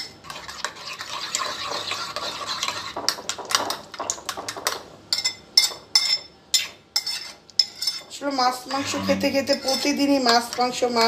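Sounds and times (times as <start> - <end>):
spoon beating eggs in bowl: 0.0 - 11.0.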